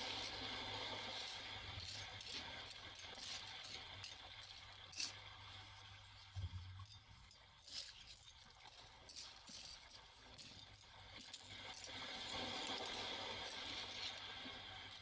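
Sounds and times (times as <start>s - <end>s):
small hard objects clinking: 0.0s - 15.0s.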